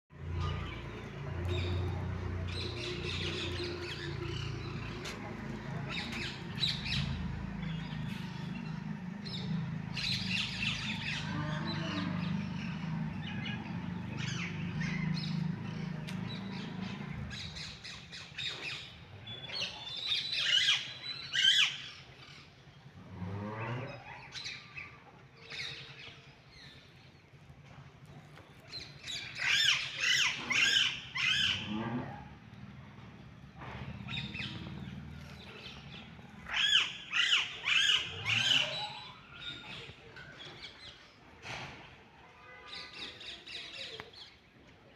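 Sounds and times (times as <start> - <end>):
birds calling and squawking: 0.2 - 27.4, 28.1 - 44.5.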